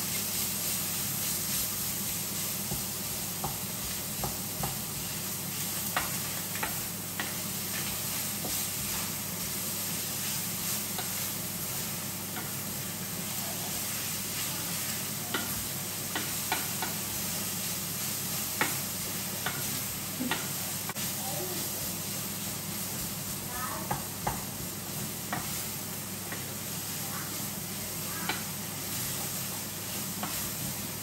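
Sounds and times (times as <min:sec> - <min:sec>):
meat sizzling in a frying pan: 0:00.0 - 0:31.0.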